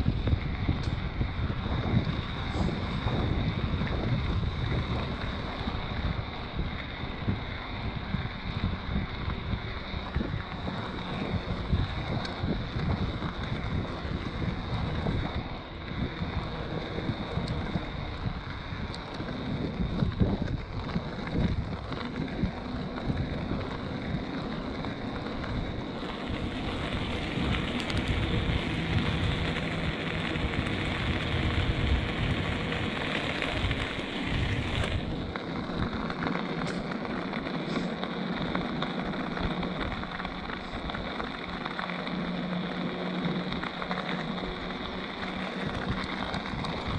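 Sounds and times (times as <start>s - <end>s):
bike tyres rolling on asphalt: 0.0s - 46.9s
wind buffeting microphone: 0.0s - 46.9s.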